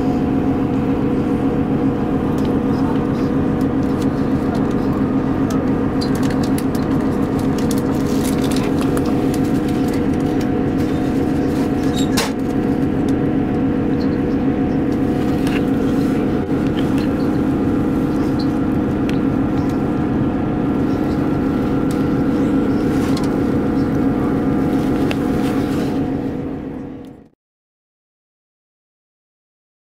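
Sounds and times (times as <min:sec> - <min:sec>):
constant hum: 0:00.0 - 0:27.3
train rumble inside carriage: 0:00.0 - 0:27.3.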